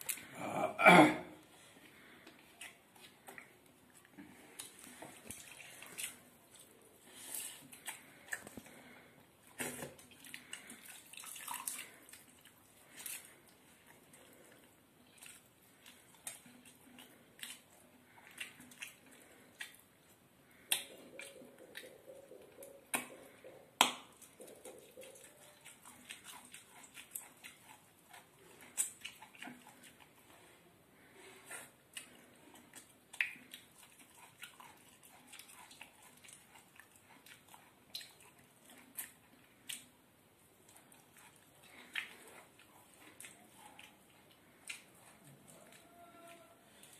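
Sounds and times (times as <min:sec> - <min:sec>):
lip-smacking and chewing: 0:00.0 - 0:00.4, 0:01.8 - 0:46.9
wet squelches of eating rice: 0:00.0 - 0:46.9.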